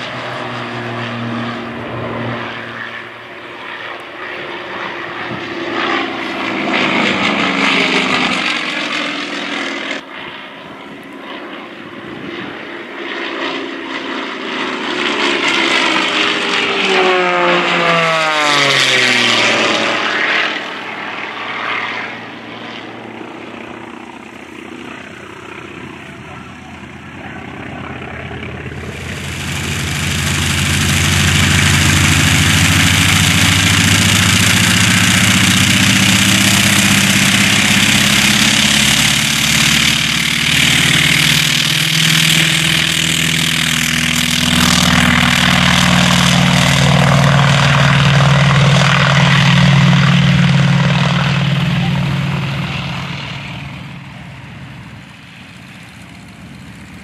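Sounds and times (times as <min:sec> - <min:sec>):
propeller plane flying past: 0:00.0 - 0:57.0
radial engine running on ground: 0:00.0 - 0:57.0.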